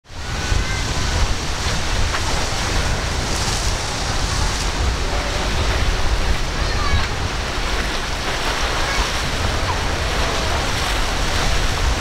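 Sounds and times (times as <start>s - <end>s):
surf and waves: 0.0s - 12.0s
wind buffeting microphone: 0.0s - 12.0s.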